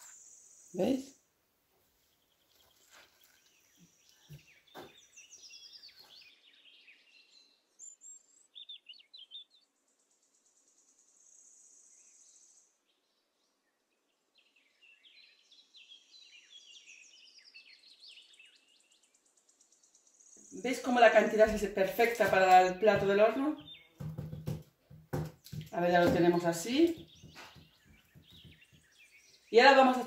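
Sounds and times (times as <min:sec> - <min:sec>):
small birds chirping: 0:01.9 - 0:30.0.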